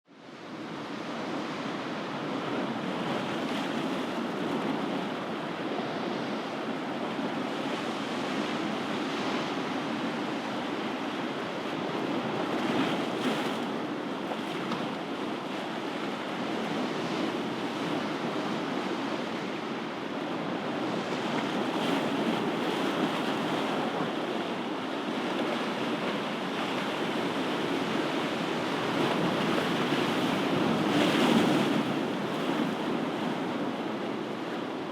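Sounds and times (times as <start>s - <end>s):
ocean surf washing ashore: 0.2s - 34.9s.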